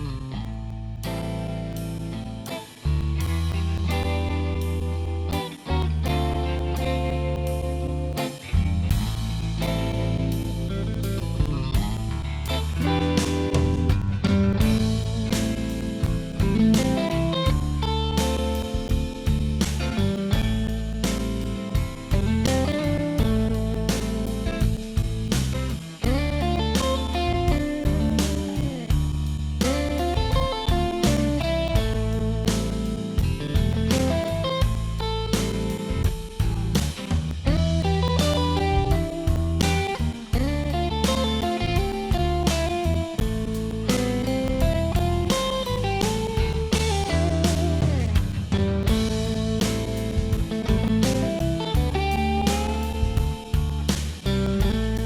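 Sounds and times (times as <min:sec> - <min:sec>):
bass line: 0:00.0 - 0:55.0
electric guitar bent notes: 0:00.0 - 0:55.0
steady beat: 0:00.0 - 0:55.0.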